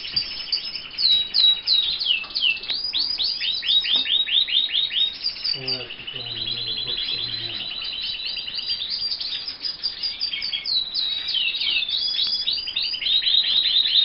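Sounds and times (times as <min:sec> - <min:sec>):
canaries singing: 0:00.0 - 0:14.0.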